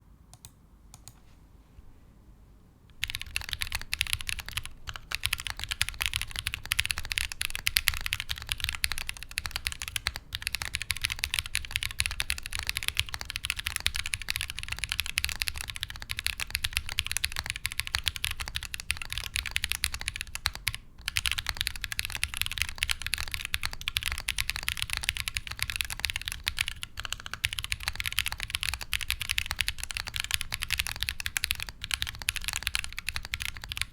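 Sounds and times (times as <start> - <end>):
mechanical keyboard typing: 3.0 - 33.9.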